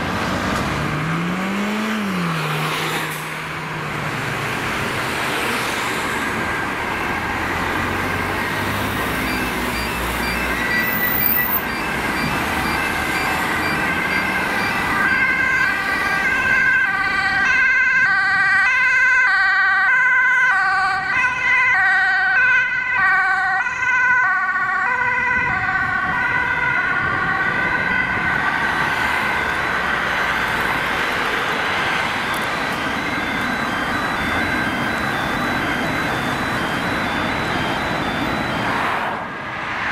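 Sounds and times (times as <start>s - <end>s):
road traffic: 0.0s - 39.9s
ambulance two-tone siren: 4.3s - 39.6s.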